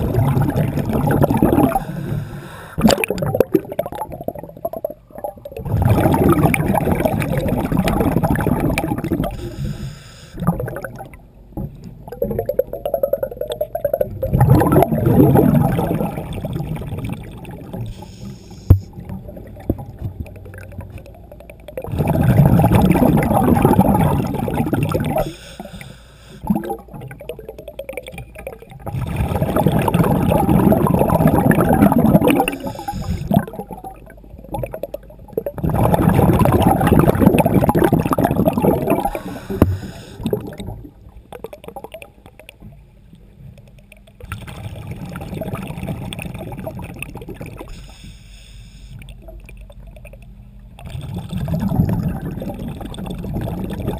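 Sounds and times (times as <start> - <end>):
underwater exhaled bubbles gurgling: 0.0 - 53.9.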